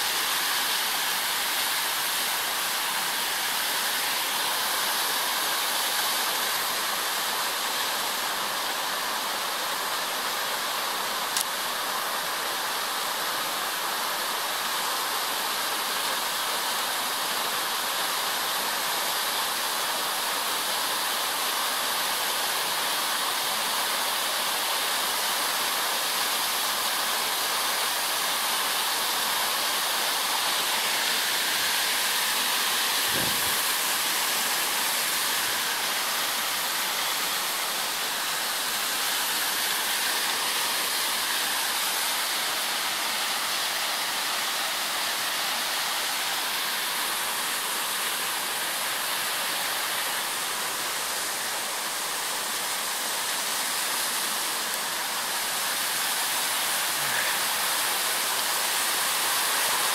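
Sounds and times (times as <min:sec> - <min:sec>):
water cascading over rocks: 0:00.0 - 0:59.9.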